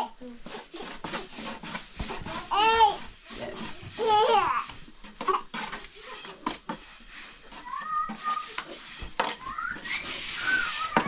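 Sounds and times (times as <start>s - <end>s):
kitchen utensils and dishes clinking: 0.0s - 11.0s.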